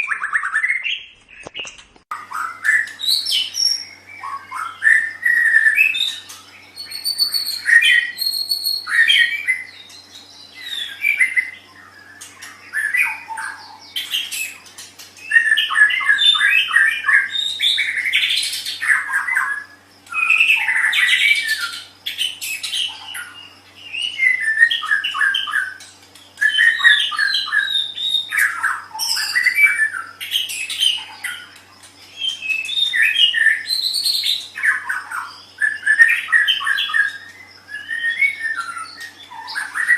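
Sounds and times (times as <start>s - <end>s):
songbird singing whistled phrases: 0.0s - 14.6s, 15.2s - 39.9s.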